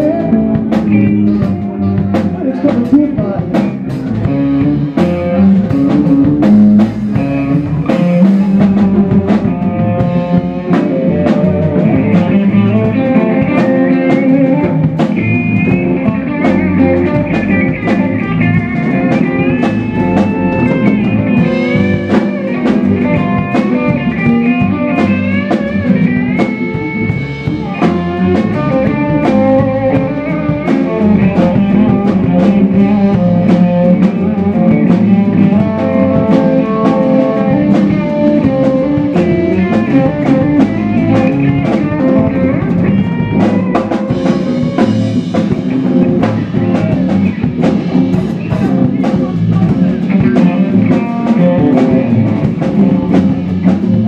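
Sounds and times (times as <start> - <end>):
drum kit: 0.0 - 54.0
electric guitar with bent notes: 0.0 - 54.0.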